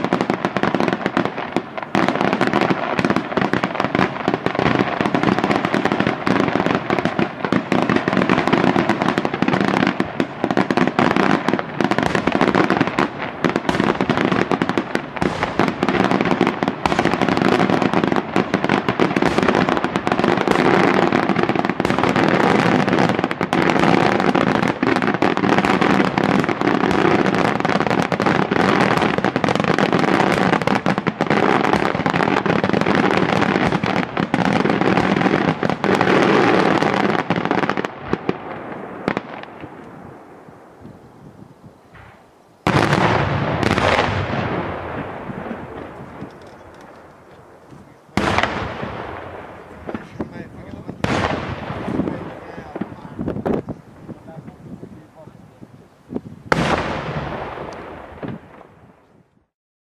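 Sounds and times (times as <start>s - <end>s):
fireworks bangs and crackling: 0.0s - 59.4s.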